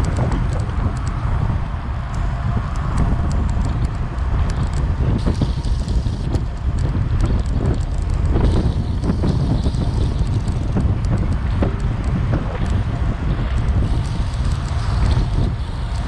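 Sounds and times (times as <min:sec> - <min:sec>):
small clicks and rattles: 0:00.0 - 0:01.2, 0:02.1 - 0:16.0
bike rolling on asphalt: 0:00.0 - 0:16.0
wind buffeting microphone: 0:00.0 - 0:16.0.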